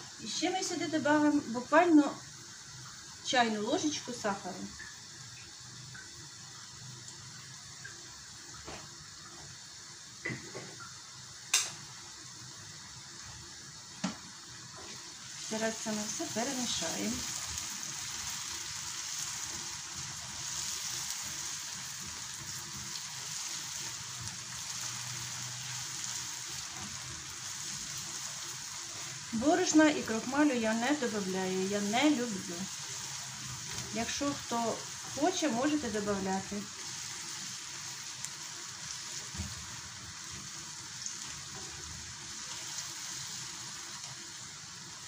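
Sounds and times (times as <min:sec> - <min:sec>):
gravy sizzling in a pan: 0:00.0 - 0:45.0.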